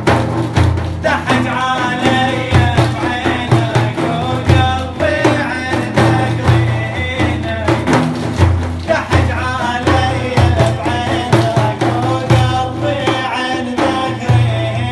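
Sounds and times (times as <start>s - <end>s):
heavy drum beat: 0.0s - 14.9s.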